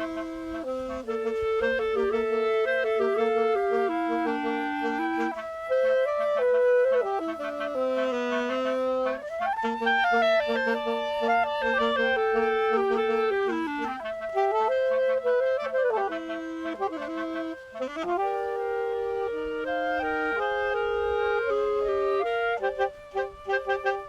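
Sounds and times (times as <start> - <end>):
woodwind trio playing: 0.0 - 24.0.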